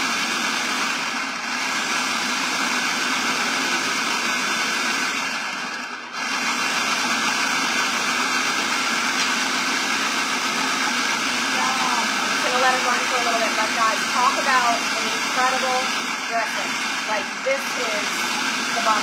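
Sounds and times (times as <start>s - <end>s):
food processor motor running: 0.0s - 19.0s.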